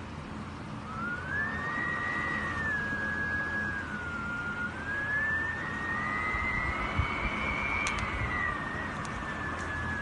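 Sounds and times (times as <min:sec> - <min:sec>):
storm wind whistling: 0:00.0 - 0:10.0
rushing wind and rain: 0:01.4 - 0:10.0.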